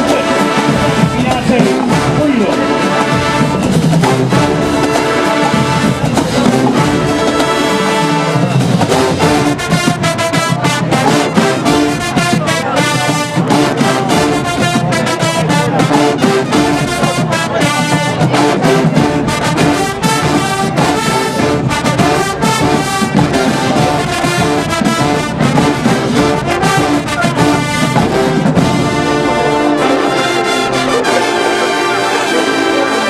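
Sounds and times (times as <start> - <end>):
drums beating: 0.0 - 33.0
marching band brass music: 0.0 - 33.0.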